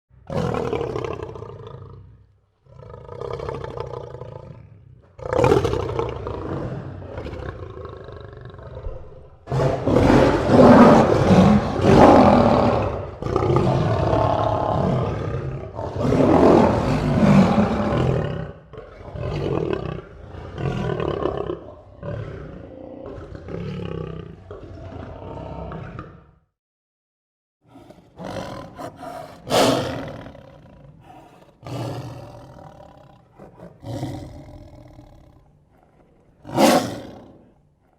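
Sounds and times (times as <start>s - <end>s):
lion roaring: 0.2s - 26.4s, 27.7s - 37.9s.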